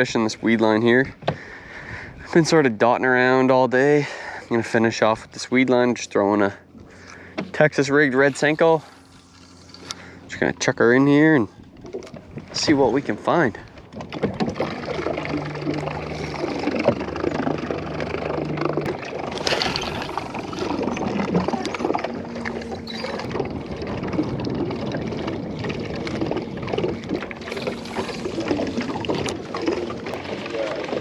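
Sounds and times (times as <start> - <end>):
outdoor noise: 5.4 - 12.9, 13.7 - 31.0.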